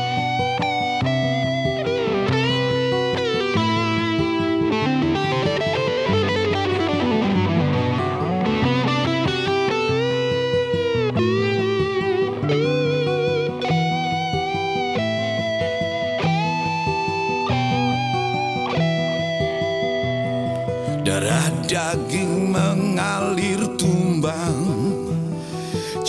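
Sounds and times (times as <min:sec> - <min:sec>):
rock band playing: 0:00.0 - 0:21.5
electric guitar solo: 0:00.0 - 0:26.0.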